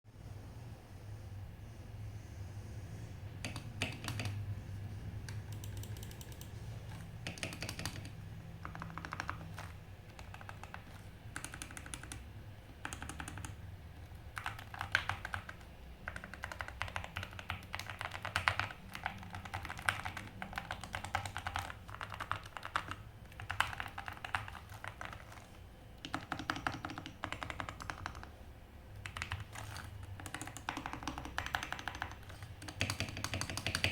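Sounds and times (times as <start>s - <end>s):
mechanical keyboard typing: 3.4s - 4.4s, 5.2s - 28.4s, 29.0s - 33.9s.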